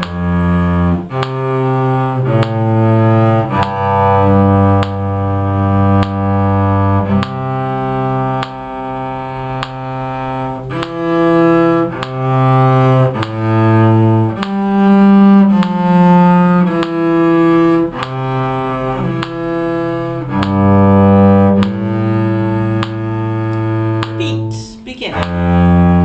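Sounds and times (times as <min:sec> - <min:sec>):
cello bowing low notes: 0:00.0 - 0:26.0.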